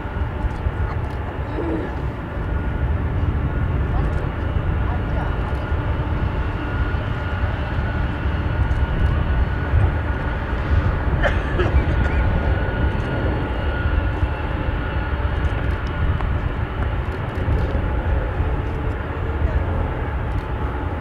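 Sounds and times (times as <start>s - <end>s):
jet engines rumbling at low thrust: 0.0s - 21.0s.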